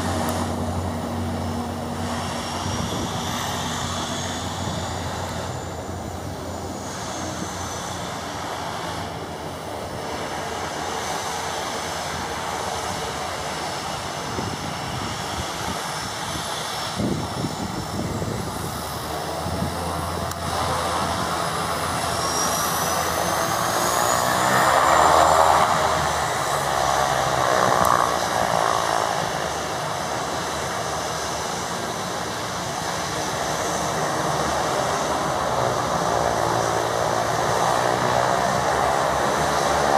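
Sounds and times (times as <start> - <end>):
plane passing on takeoff: 0.0 - 39.9
turboprop engines droning: 0.0 - 39.9.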